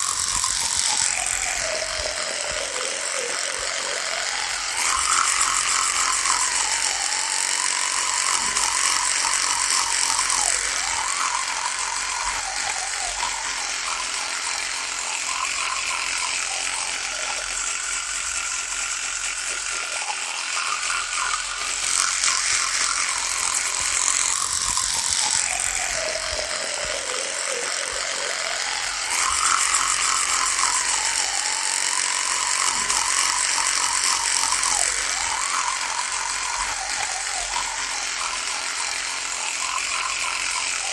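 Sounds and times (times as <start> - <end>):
electric toothbrush buzzing: 0.0 - 40.9.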